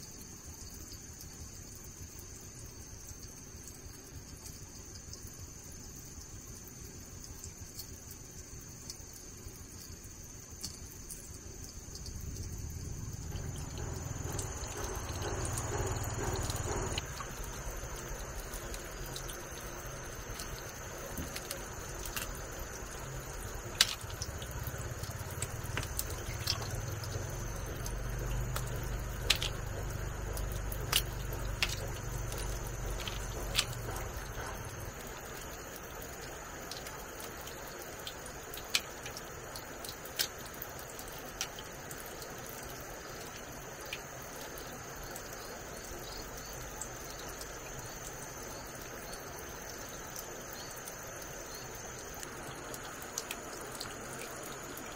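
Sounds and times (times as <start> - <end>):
high insect drone: 0.0 - 54.9
water trickling in plastic basin: 10.2 - 54.9.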